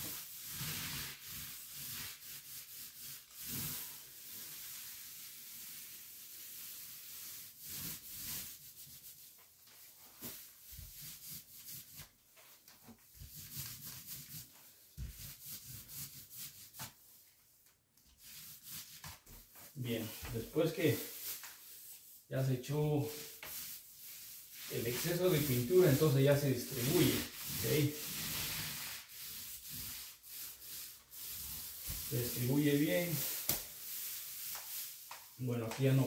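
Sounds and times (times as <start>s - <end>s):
paint roller rubbing on wall: 0.0s - 17.5s, 18.1s - 36.0s.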